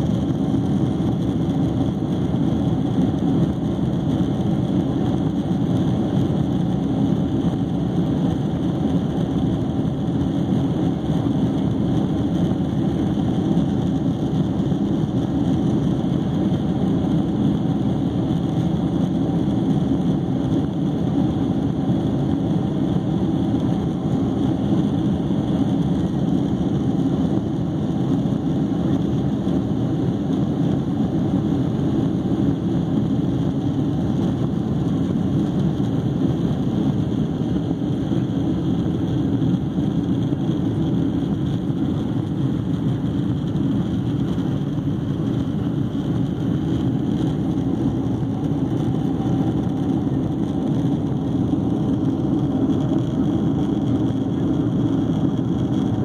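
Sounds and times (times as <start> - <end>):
jet engine cabin hum: 0.0 - 56.0.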